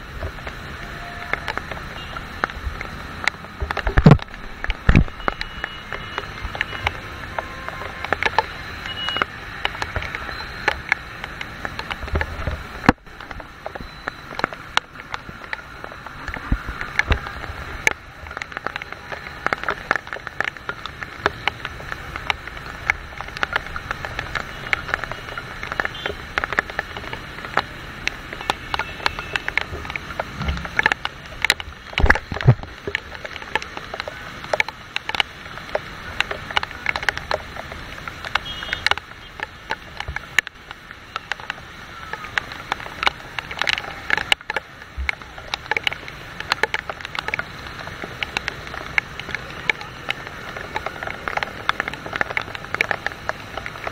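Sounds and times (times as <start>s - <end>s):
rain drops tapping: 0.0s - 53.9s
traffic on wet road: 0.0s - 53.9s.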